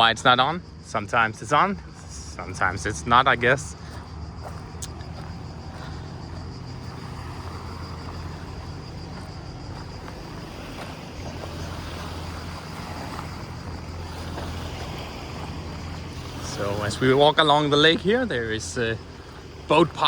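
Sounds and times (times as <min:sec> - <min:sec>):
wind rumble on microphone: 0:01.8 - 0:20.0.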